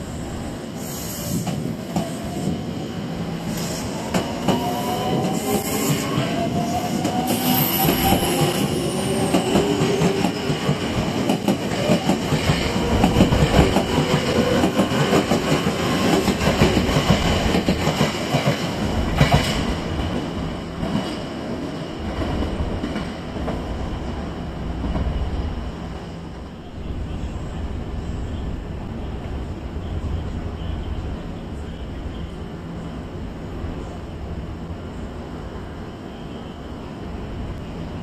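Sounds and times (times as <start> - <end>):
electric train passing: 0.0 - 31.8.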